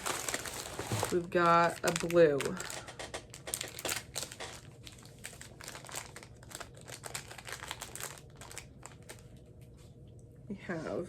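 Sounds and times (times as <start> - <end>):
plastic packaging crinkling and tearing: 0.0 - 9.5.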